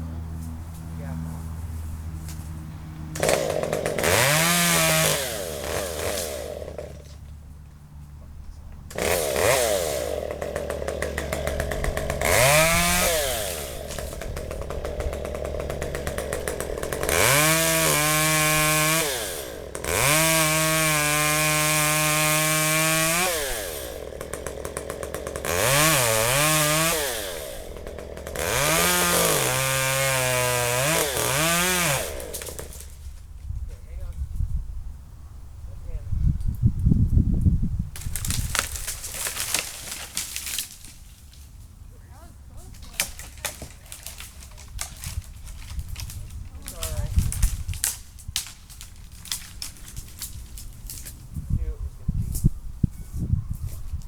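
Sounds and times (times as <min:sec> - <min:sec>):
chainsaw idling and revving: 0:01.0 - 0:33.3, 0:38.0 - 0:41.1, 0:42.1 - 0:51.6.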